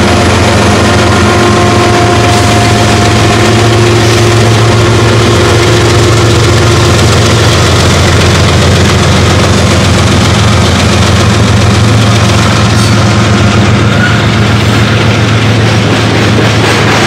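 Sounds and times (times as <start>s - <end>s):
diesel locomotive engine hum: 0.0s - 17.0s.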